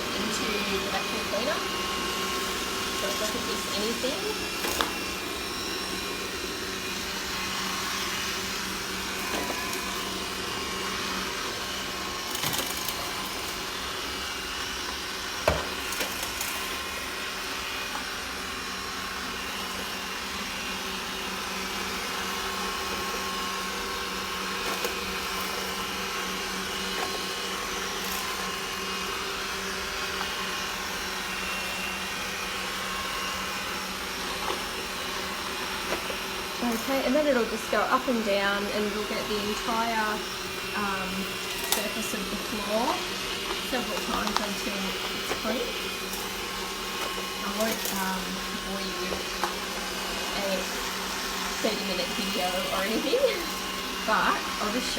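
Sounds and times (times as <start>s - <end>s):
robot vacuum cleaner whirring: 0.0s - 54.9s.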